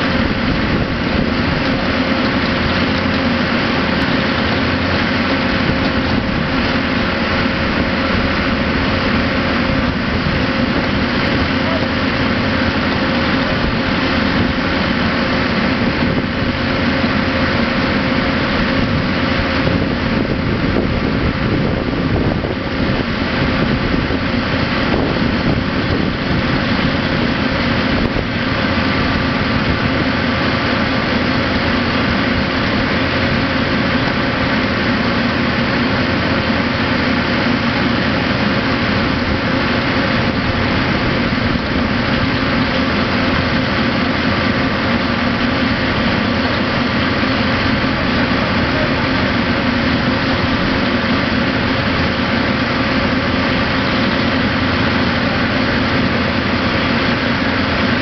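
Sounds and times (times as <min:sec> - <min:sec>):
engine power unit droning: 0:00.0 - 0:58.0.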